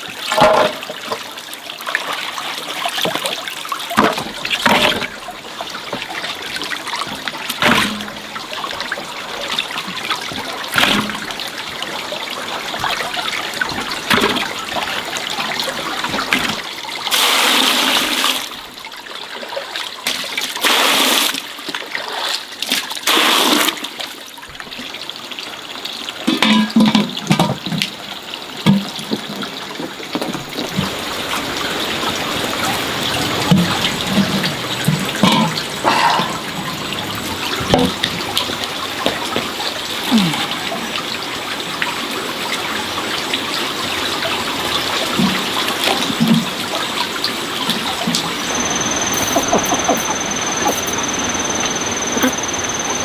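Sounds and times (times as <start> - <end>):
water gushing: 0.0 - 53.0
water trickling and splashing: 0.0 - 53.0.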